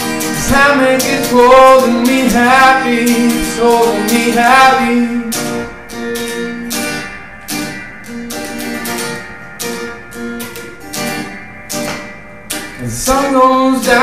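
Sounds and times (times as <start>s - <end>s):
electric guitar strumming chords: 0.0s - 14.0s.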